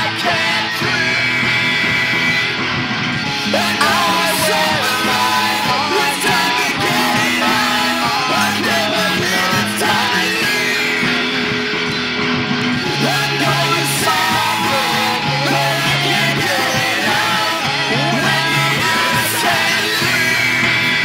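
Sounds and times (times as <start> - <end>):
person singing: 0.0 - 2.6, 3.3 - 11.9, 12.9 - 21.0
guitar: 0.0 - 21.0
low bass notes: 0.0 - 21.0.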